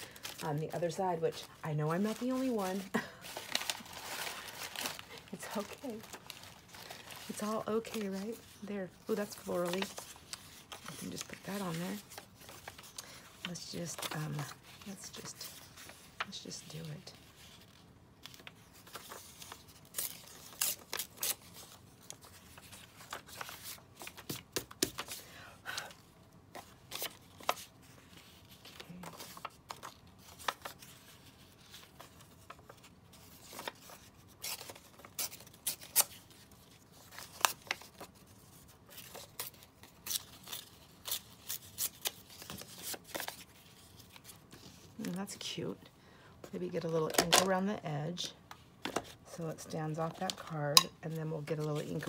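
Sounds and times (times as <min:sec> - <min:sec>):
paper rustling: 0:00.0 - 0:45.2, 0:49.9 - 0:52.0.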